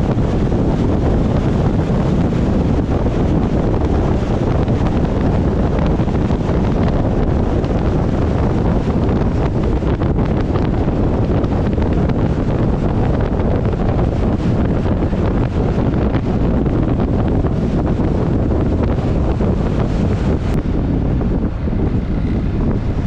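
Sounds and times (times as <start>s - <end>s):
wind noise on microphone: 0.0s - 23.0s.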